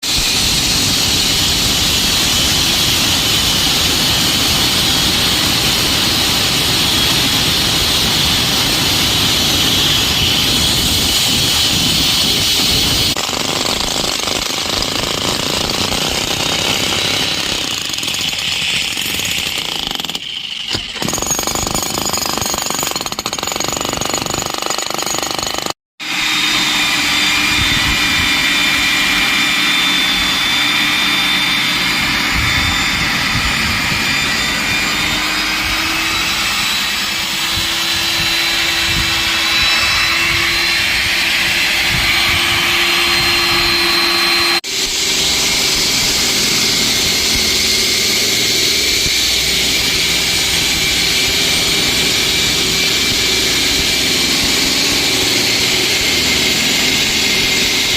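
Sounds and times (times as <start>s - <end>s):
power tools hammering concrete: 0.0s - 26.2s, 34.8s - 57.9s.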